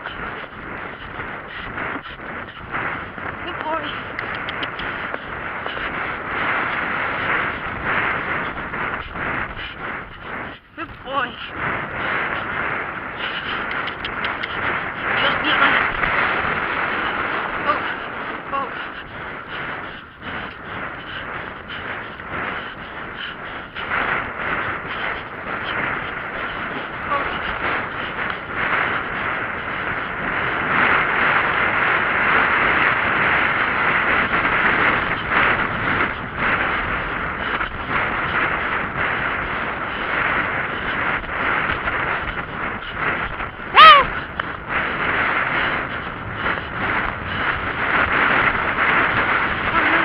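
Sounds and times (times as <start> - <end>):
hoofbeats: 0.0 - 50.0
horse breathing: 0.0 - 50.0
wind on microphone: 0.0 - 50.0.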